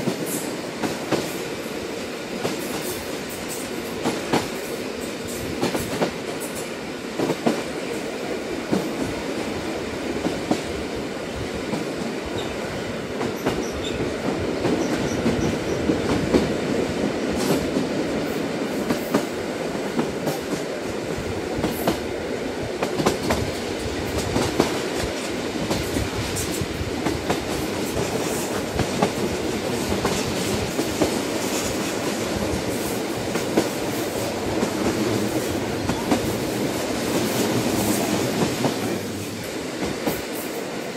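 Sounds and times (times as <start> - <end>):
train rumbling on rails: 0.0 - 40.9.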